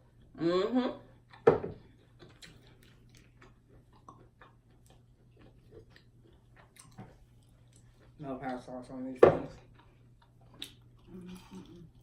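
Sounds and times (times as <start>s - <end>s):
faint steady hum: 0.0s - 12.0s
soft chewing: 1.1s - 8.9s, 9.5s - 12.0s.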